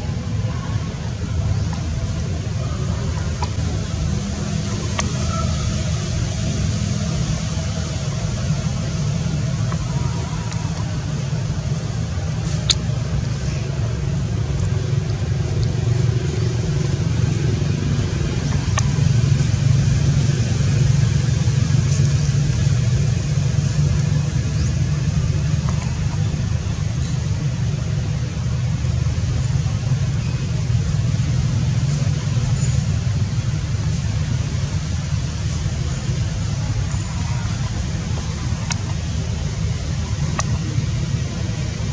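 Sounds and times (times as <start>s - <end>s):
low rumble: 0.0s - 41.9s.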